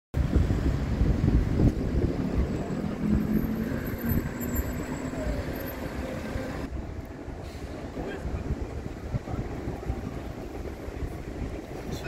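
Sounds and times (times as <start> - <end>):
wind rumbling on microphone: 0.1 - 12.0
vehicles passing: 0.2 - 12.0.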